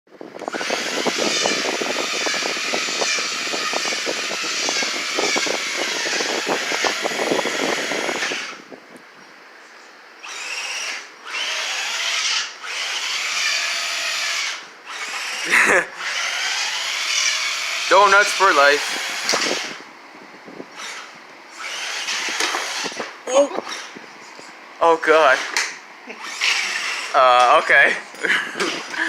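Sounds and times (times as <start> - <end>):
toy truck motor whining: 0.4 - 8.6, 10.2 - 19.8, 20.7 - 24.0, 25.1 - 27.6, 28.6 - 29.0.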